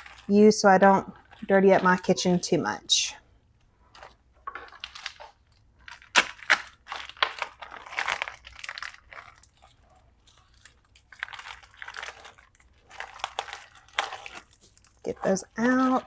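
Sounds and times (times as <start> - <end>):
sharp plastic crackles: 0.0 - 2.5, 3.6 - 16.0
plastic packaging crinkling: 0.0 - 2.9, 3.8 - 16.0.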